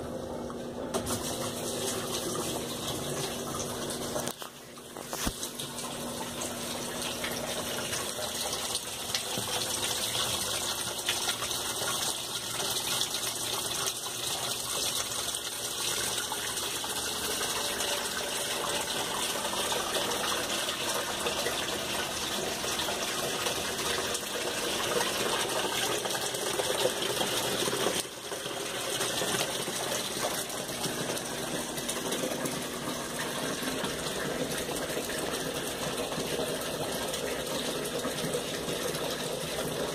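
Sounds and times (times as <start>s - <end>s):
water rushing in washing machine: 0.0s - 39.9s.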